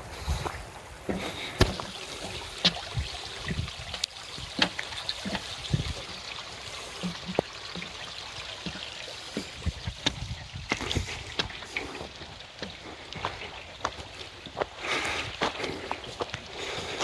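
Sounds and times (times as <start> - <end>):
footsteps on a trail: 0.0 - 17.0
running water: 0.0 - 17.0.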